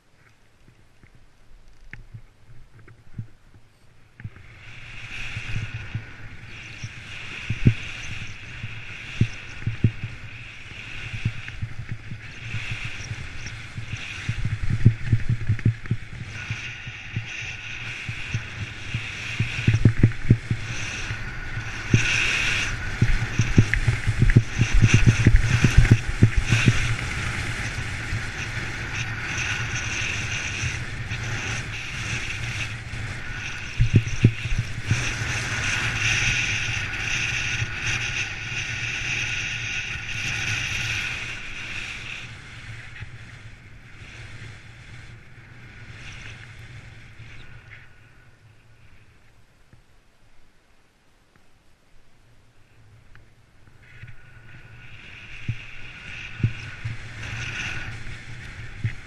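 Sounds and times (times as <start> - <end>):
skis running over snow: 0.0 - 49.4, 53.2 - 59.0
wind on microphone: 0.7 - 49.3, 52.6 - 59.0.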